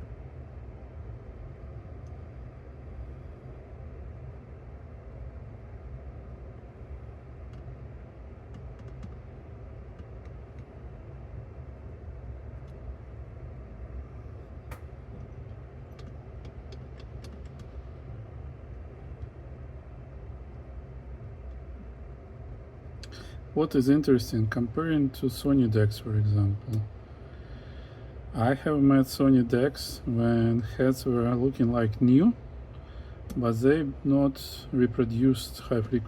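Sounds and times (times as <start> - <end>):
low room rumble: 0.0 - 36.0.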